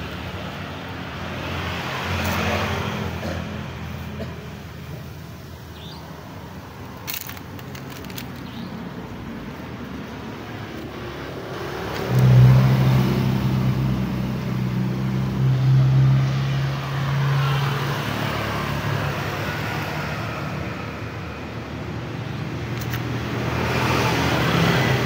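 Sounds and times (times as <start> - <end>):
vehicle engine hum: 0.0 - 25.0.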